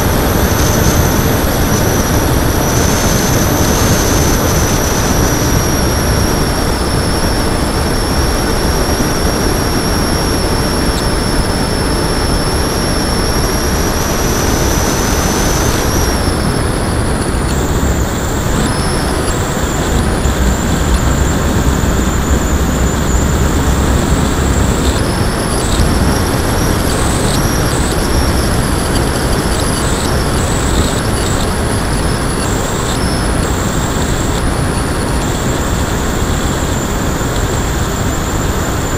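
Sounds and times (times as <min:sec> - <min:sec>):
high electric motor whine: 0:00.0 - 0:38.9
wind rushing over microphone: 0:00.0 - 0:38.9.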